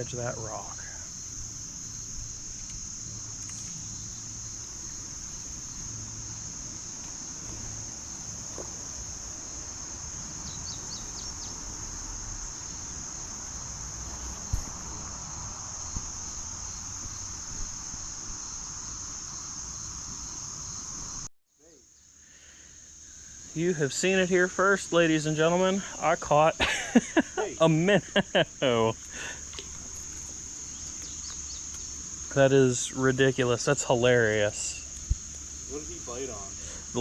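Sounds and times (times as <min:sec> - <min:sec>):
high-pitched insect chorus: 0:00.0 - 0:37.0.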